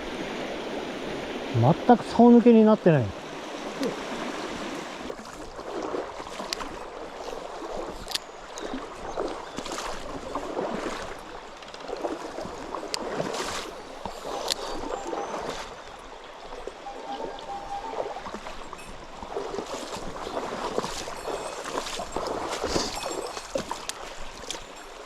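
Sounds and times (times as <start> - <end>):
stream rushing over stones: 0.0 - 25.0.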